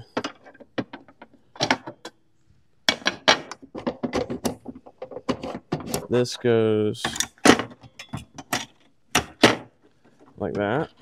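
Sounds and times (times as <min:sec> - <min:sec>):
parts clicking and clattering: 0:00.0 - 0:02.2, 0:02.8 - 0:11.0.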